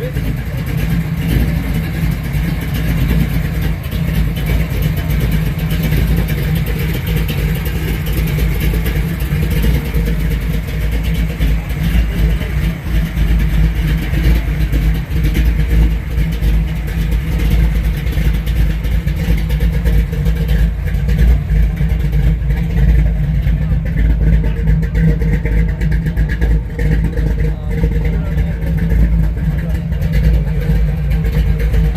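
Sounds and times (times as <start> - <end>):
car engine idling loudly: 0.0 - 31.9.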